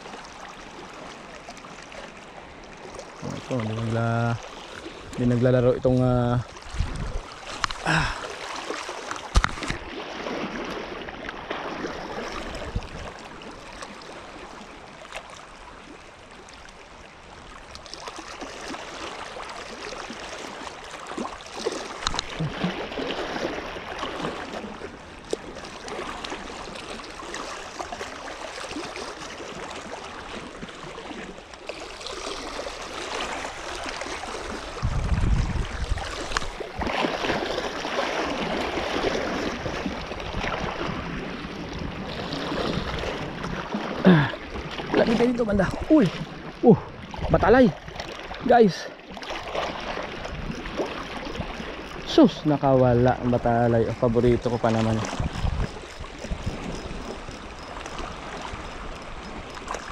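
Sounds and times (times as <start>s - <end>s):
sea water lapping: 0.0s - 59.9s.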